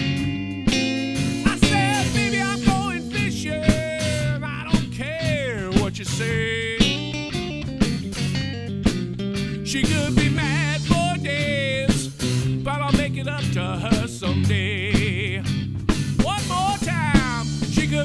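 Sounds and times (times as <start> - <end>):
drum kit beat: 0.0 - 18.0
electric bass: 0.0 - 18.0
electric guitar lead: 0.0 - 18.0.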